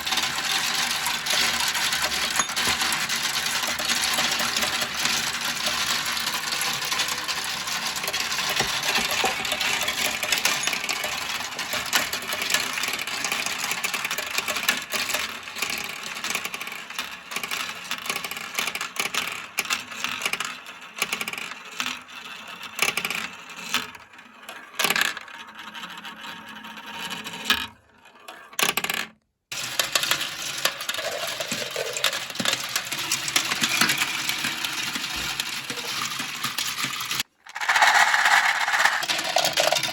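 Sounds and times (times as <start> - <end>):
marbles rattling down plastic run: 0.0 - 24.0, 28.6 - 39.9.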